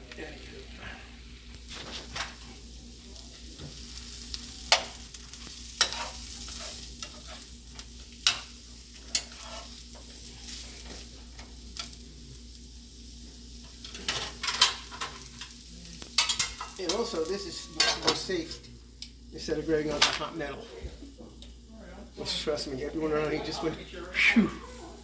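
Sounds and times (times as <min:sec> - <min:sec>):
mushrooms sizzling in a frying pan: 0:00.0 - 0:25.0.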